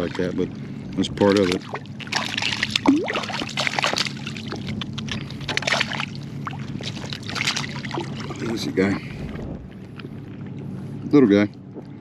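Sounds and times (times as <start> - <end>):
water splashing and sloshing: 0.0 - 11.1
boat motor humming: 0.0 - 12.0.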